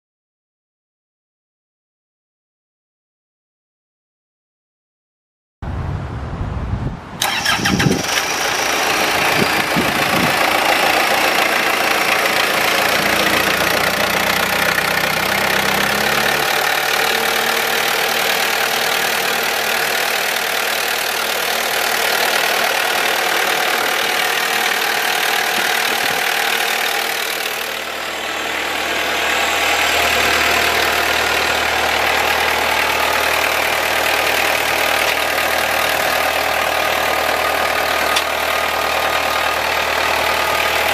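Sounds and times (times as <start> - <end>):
diesel engine cranking and idling: 7.2 - 40.9.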